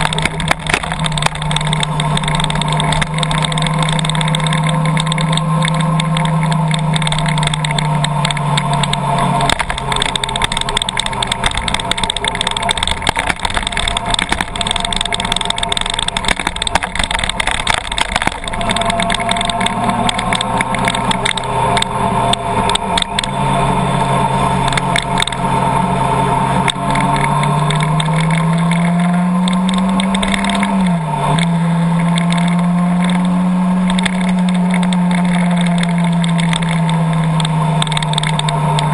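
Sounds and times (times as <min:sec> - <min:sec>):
taps and clicks: 0:00.0 - 0:23.3, 0:24.6 - 0:25.5, 0:26.6 - 0:38.9
car engine running: 0:00.0 - 0:38.9.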